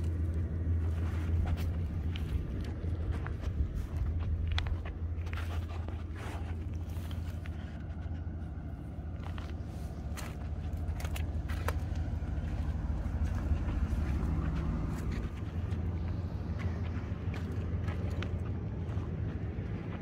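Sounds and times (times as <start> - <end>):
footsteps crunching through dry grass: 0.0 - 20.0
steady low rumble: 0.0 - 20.0.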